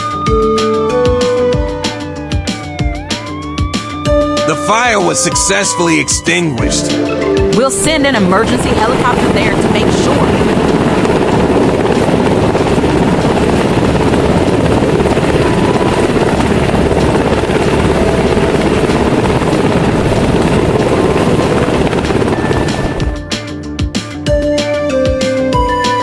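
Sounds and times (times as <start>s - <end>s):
helicopter rotor whirring chop: 0.0s - 24.8s.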